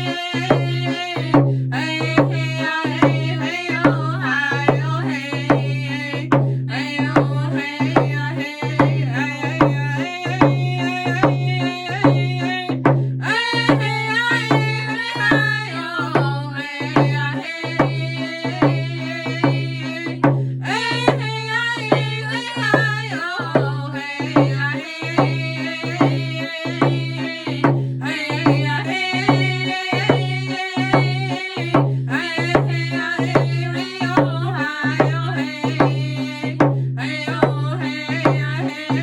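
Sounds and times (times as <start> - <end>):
hand drums beating: 0.0 - 39.0
voices singing: 0.0 - 39.0.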